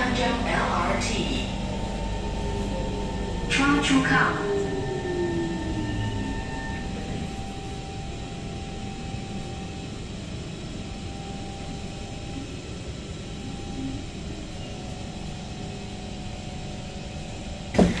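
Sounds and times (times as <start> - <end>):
faint steady tones: 0.0 - 17.7
train car hum and hiss: 0.0 - 18.0.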